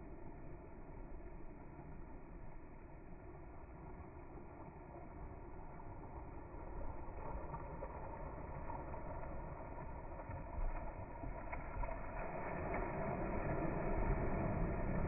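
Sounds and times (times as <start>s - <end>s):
soft sea waves washing in: 0.0s - 15.0s.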